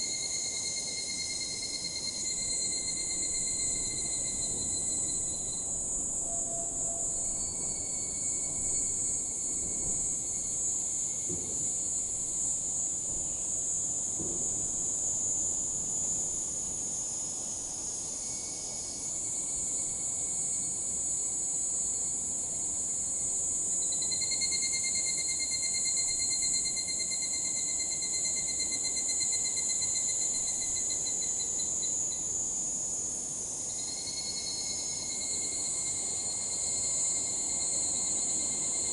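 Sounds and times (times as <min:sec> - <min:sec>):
high-pitched insect drone: 0:00.0 - 0:13.9, 0:16.9 - 0:38.9
evening cicadas pulsed trilling: 0:00.0 - 0:38.9.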